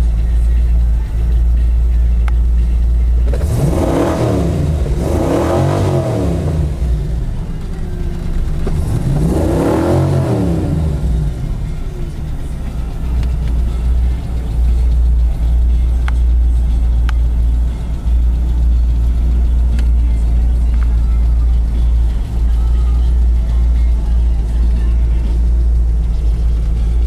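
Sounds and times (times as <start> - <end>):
engine idling and revving: 0.0 - 27.0.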